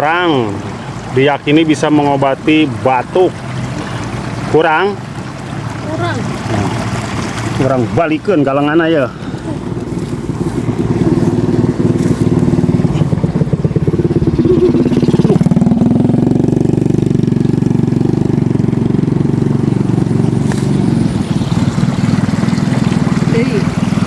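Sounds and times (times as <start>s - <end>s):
loud engine running: 0.2s - 24.0s.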